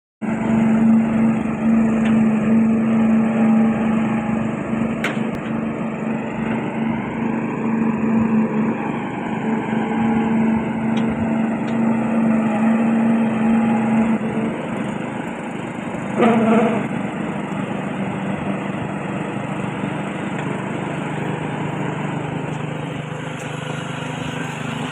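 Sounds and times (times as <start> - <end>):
machinery droning hum: 0.2 - 24.9.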